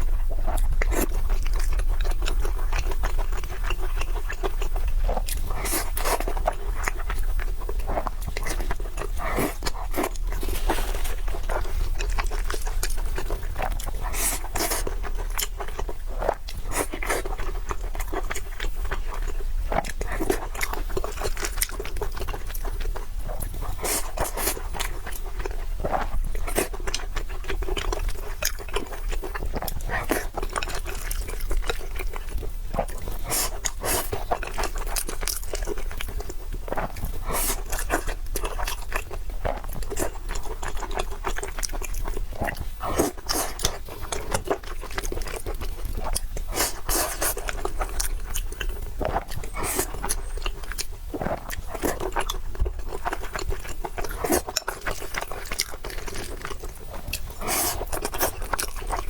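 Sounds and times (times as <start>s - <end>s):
chewing with crunches: 0.0s - 59.0s.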